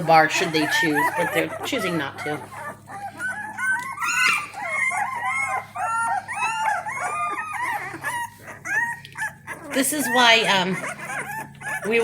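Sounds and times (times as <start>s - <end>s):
puppies crying and squealing: 0.0s - 12.0s.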